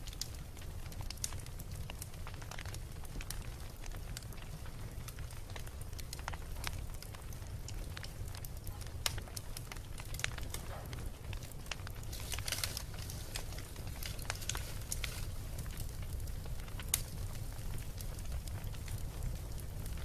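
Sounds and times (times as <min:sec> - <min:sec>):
fire low rumble: 0:00.0 - 0:20.0
wood crackling and popping: 0:00.0 - 0:20.0.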